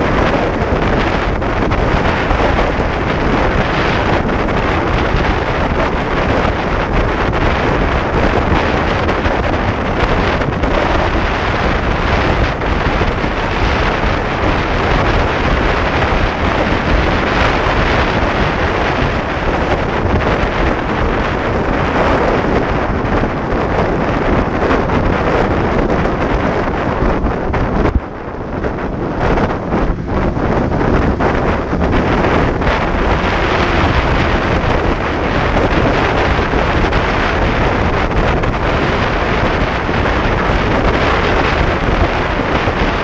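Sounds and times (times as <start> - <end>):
road noise: 0.0 - 43.0
wind rushing over microphone: 0.0 - 43.0.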